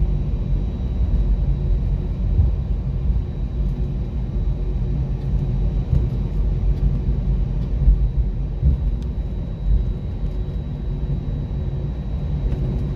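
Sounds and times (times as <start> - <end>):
airplane cabin low rumble: 0.0 - 12.9.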